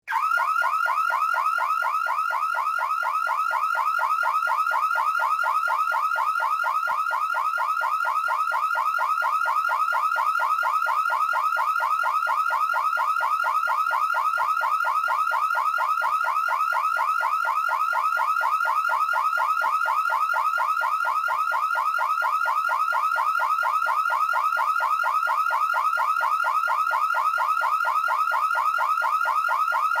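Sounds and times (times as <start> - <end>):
car alarm siren warbling: 0.0 - 30.0.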